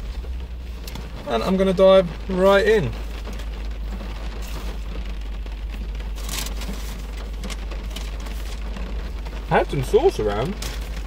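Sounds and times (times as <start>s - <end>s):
low rumble: 0.0s - 11.0s
rain pattering on car roof: 0.0s - 11.0s.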